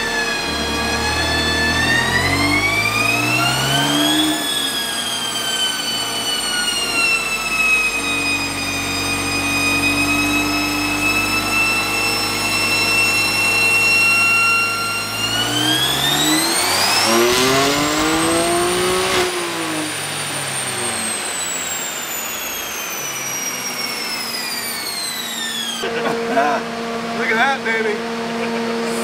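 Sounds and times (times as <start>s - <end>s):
car engine revving on dyno: 0.0s - 29.0s
dyno rollers coasting: 0.0s - 29.0s.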